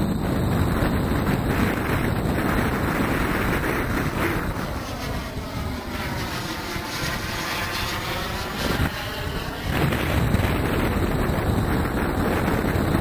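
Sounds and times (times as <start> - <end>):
model jet engines rushing: 0.0 - 13.0
wind buffeting microphone: 0.0 - 13.0.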